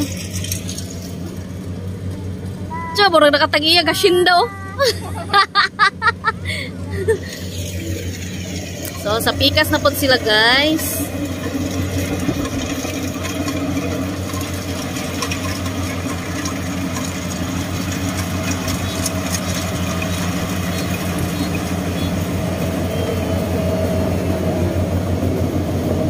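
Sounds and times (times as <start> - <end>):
combine harvester engine throbbing: 0.0 - 26.0.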